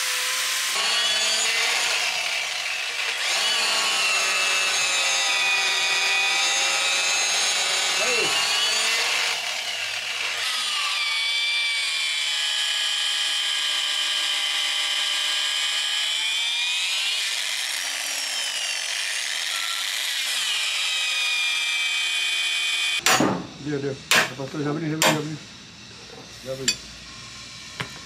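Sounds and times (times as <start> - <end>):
electric drill boring into wood: 0.0 - 23.0.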